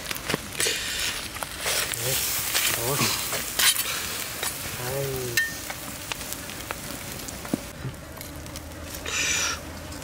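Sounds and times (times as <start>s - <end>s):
fish sizzling on a grill: 0.0s - 10.0s.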